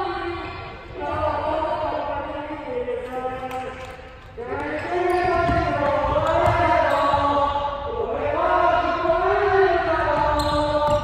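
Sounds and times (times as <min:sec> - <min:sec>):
voices chanting a cheer: 0:00.0 - 0:11.0.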